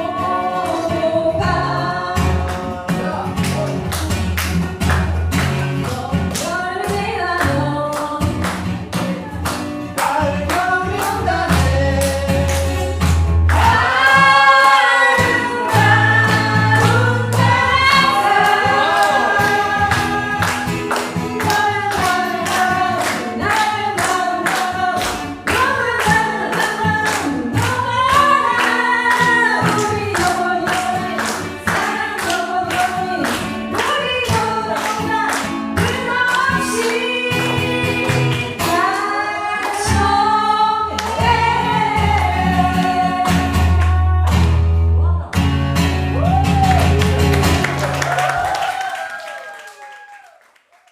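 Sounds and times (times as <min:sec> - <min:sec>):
voices singing together: 0:00.0 - 0:03.5, 0:05.8 - 0:44.0.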